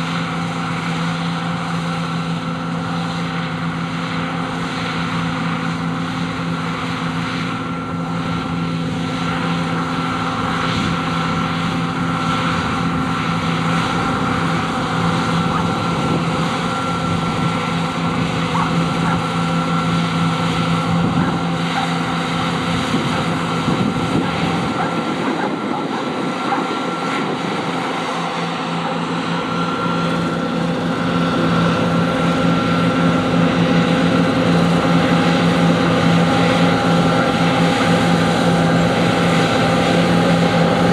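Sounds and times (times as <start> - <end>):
combine harvester engine drone: 0.0 - 40.9
high steady machinery whine: 0.0 - 40.9.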